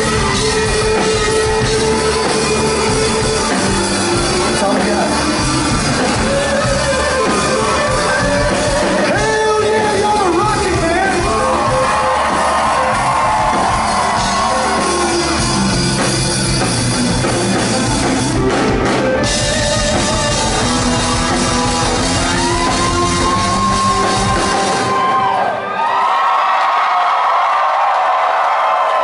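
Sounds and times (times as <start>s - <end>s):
bass guitar: 0.0s - 25.5s
drum kit: 0.0s - 25.5s
country-rock band playing: 0.0s - 25.8s
electric guitars: 0.0s - 25.8s.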